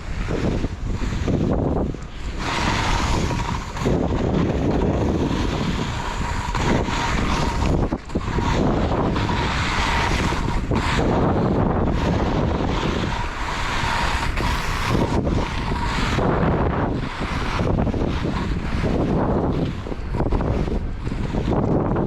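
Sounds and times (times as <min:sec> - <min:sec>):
strong wind on microphone: 0:00.0 - 0:22.0.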